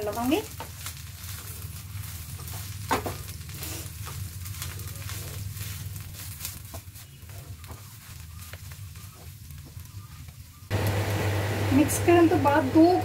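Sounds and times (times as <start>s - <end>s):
wooden spoon scraping a pan: 0.0s - 10.7s
light sizzle: 0.0s - 13.0s.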